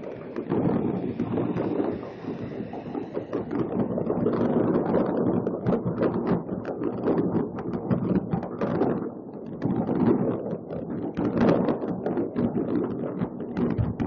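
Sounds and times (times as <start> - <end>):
fireworks popping and crackling: 0.0 - 14.0
wind on microphone: 0.0 - 14.0.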